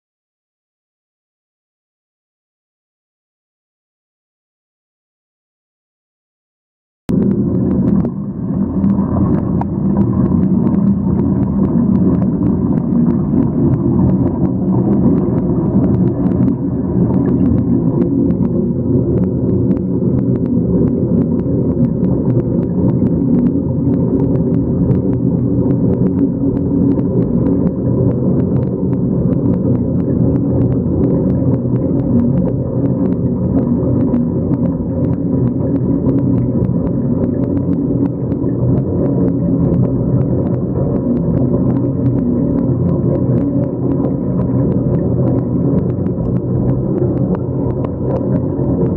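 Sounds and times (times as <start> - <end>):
small clicks and pops: 7.1 - 48.9
water swirling down drain: 7.1 - 48.9.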